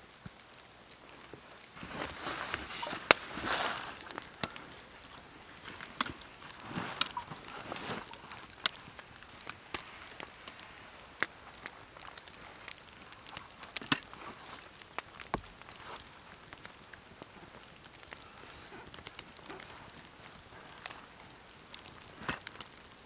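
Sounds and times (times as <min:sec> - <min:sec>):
canvas and wool rustling: 0:01.2 - 0:22.4
sharp clicks and snaps: 0:04.0 - 0:23.0.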